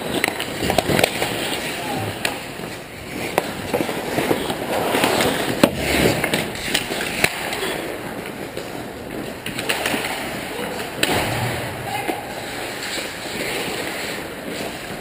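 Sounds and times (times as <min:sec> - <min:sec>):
skate blades scraping ice: 0:00.0 - 0:11.1, 0:11.9 - 0:15.0
hockey sticks and puck clacking: 0:00.0 - 0:15.0.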